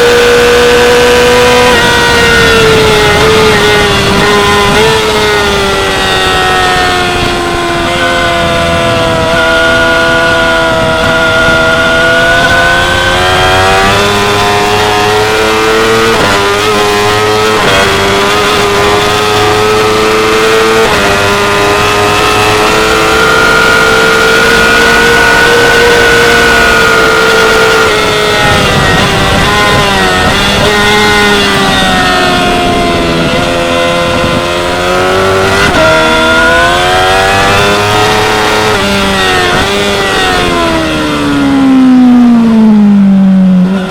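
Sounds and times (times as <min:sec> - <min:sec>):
motorcycle engine revving hard: 0:00.0 - 0:43.9.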